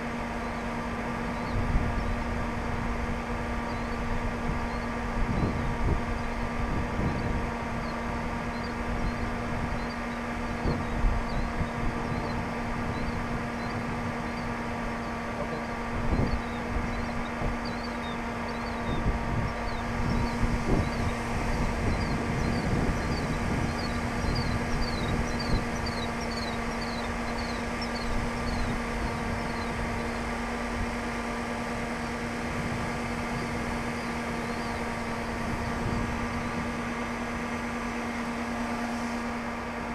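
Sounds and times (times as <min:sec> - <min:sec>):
steady mechanical hum: 0:00.0 - 0:39.9
wind buffeting microphone: 0:00.0 - 0:39.9.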